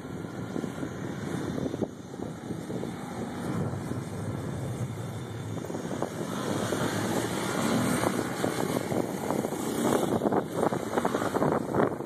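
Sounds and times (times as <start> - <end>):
quad engine running: 0.0 - 12.0
wind on microphone: 0.0 - 12.0.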